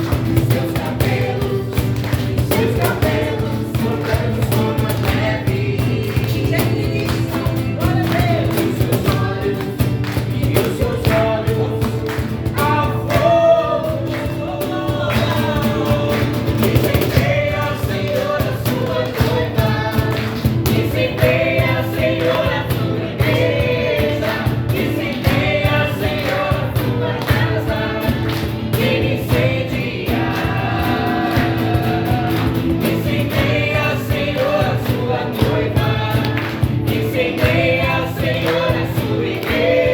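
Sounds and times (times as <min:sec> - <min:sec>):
band with steady beat: 0:00.0 - 0:39.9
choir singing: 0:00.0 - 0:39.9.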